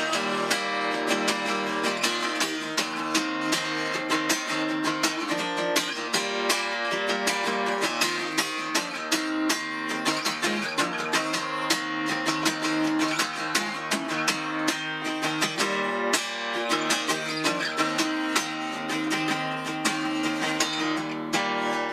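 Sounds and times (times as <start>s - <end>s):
strummed acoustic guitar: 0.0s - 21.9s.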